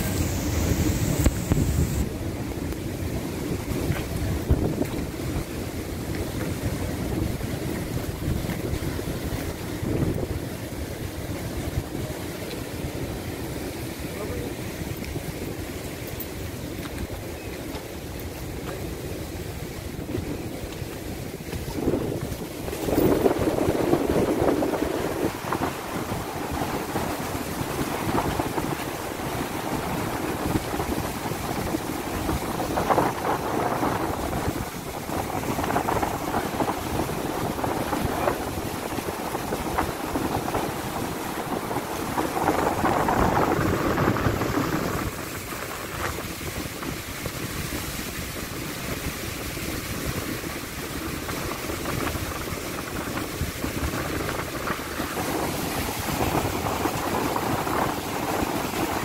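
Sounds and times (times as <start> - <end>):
steady rushing noise: 0.0 - 59.0
wind buffeting microphone: 0.0 - 59.0.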